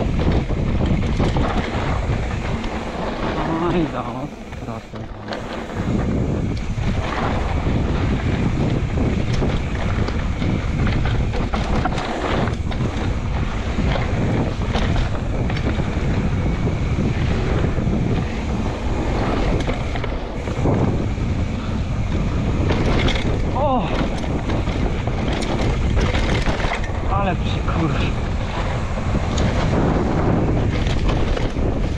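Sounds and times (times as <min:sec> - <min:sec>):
bike clicks and knocks: 0:00.0 - 0:31.9
wind buffeting microphone: 0:00.0 - 0:31.9.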